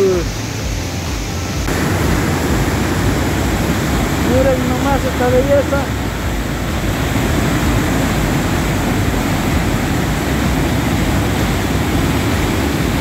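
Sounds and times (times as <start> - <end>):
waterfall rushing water: 0.0 - 13.0.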